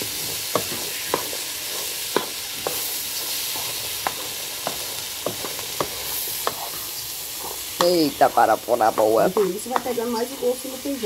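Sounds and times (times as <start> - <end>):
food sizzling in pan: 0.0 - 11.0
wooden spoon scraping pan: 0.1 - 11.0.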